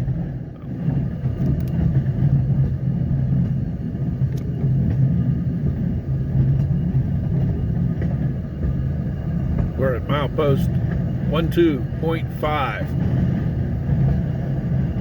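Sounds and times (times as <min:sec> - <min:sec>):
rail vehicle engine drone: 0:00.0 - 0:15.0.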